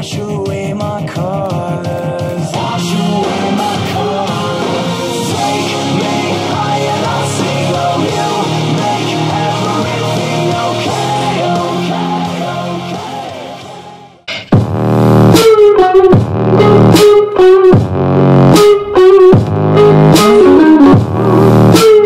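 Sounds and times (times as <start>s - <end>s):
rock music with guitar: 0.0s - 22.0s.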